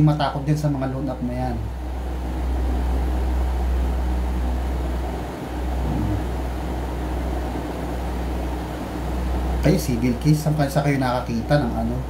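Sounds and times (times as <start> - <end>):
low hum: 0.0 - 12.0
noisy rush of room noise: 0.0 - 12.0.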